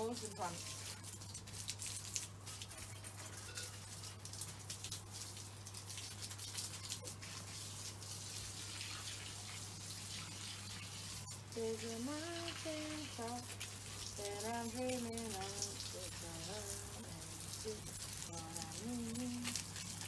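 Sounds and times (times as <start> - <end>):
garden hose spraying plants: 0.0 - 20.0.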